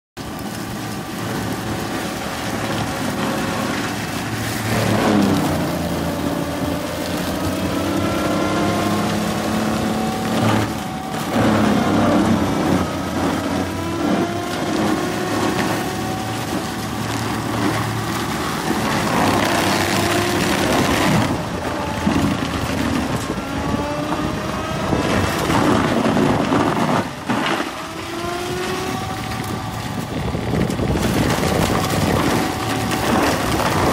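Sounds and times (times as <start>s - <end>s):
flail shredder crushing branches: 0.2s - 33.9s
tractor engine under load: 0.2s - 33.9s.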